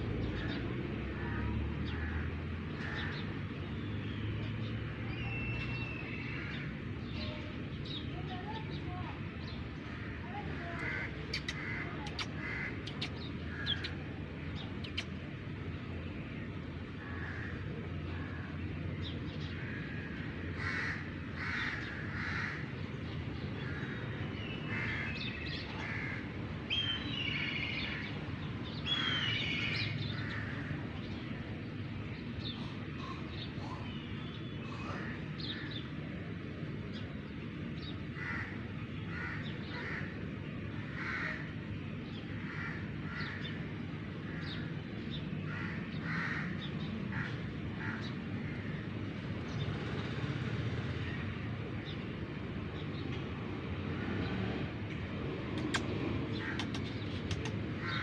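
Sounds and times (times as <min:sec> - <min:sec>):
birds calling: 0:00.1 - 0:58.0.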